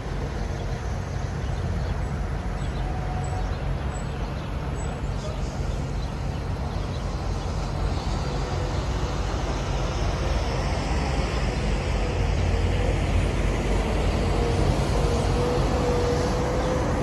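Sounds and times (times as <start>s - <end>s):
truck engines running: 0.0s - 17.0s.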